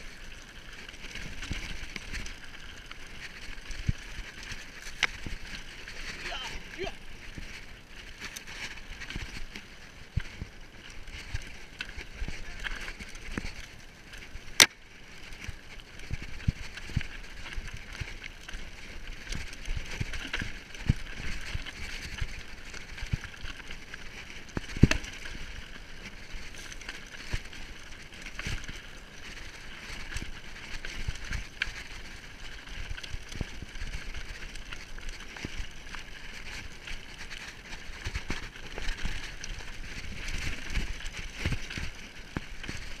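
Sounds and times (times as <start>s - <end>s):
bike rattling over bumps: 0.0s - 43.0s
tyres crunching over loose stones: 0.0s - 43.0s.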